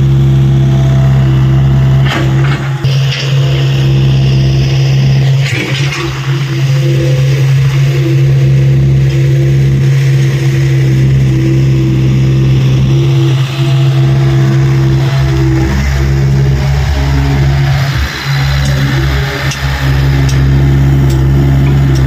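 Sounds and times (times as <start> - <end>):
excavator diesel engine running: 0.0 - 22.0
higher tone: 0.0 - 22.0.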